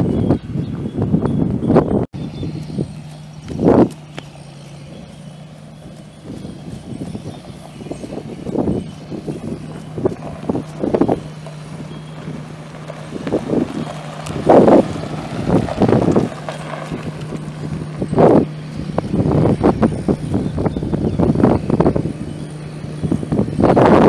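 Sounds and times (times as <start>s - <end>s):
thumps and gusty rumble: 0.0s - 24.0s
truck engine humming: 0.0s - 24.0s.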